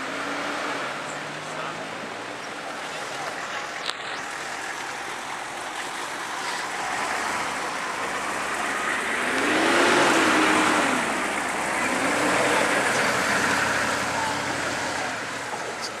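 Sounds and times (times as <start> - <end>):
road vehicle passing: 0.0 - 16.0.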